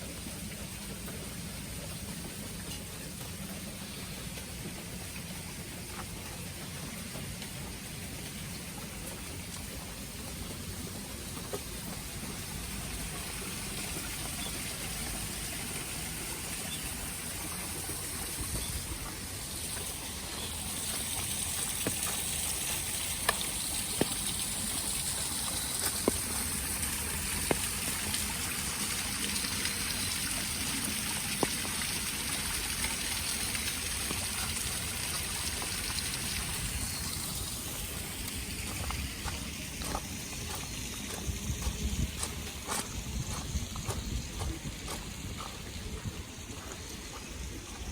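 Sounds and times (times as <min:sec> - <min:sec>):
water trickling and running: 0:00.0 - 0:47.9.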